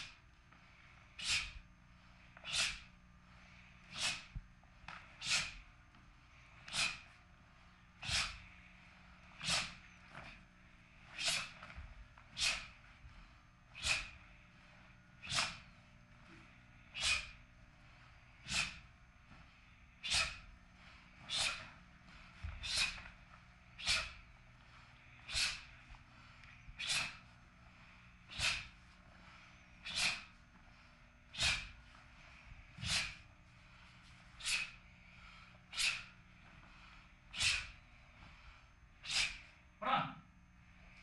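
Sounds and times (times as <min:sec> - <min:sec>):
sharp forced exhalations: 0:01.0 - 0:01.6, 0:02.4 - 0:02.9, 0:03.8 - 0:04.3, 0:05.1 - 0:05.7, 0:06.4 - 0:07.2, 0:08.0 - 0:10.4, 0:11.0 - 0:39.6.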